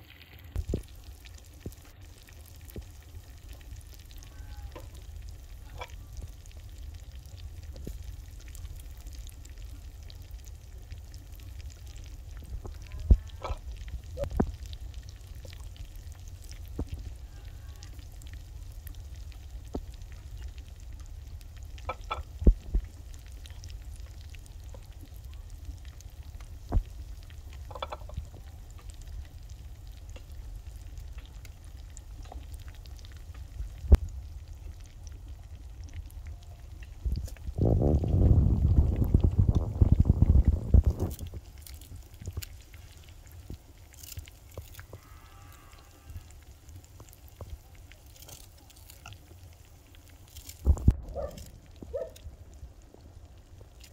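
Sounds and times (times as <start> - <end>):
soup boiling and bubbling: 0.0 - 53.9.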